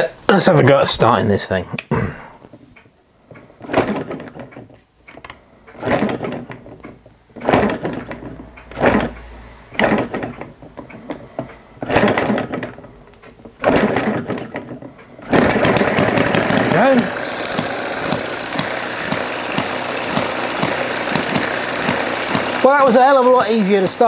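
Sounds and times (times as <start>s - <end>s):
model engine being cranked: 3.6s - 11.2s, 11.8s - 24.0s.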